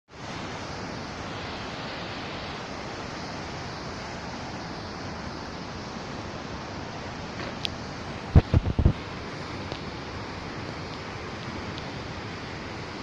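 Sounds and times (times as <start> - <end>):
river rushing over rocks: 0.1 - 13.0.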